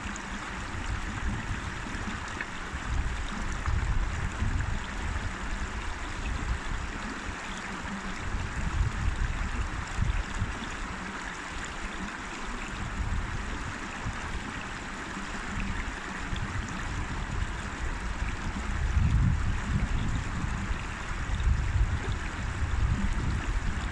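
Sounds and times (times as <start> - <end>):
river water rushing: 0.0 - 8.9, 9.5 - 23.9.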